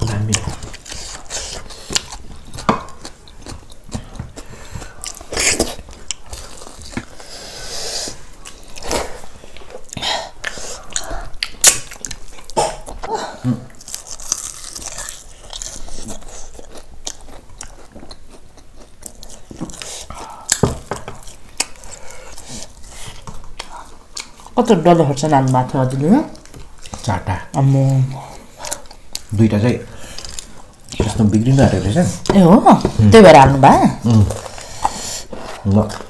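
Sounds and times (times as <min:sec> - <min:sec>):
people chewing crisp food: 0:00.0 - 0:36.0.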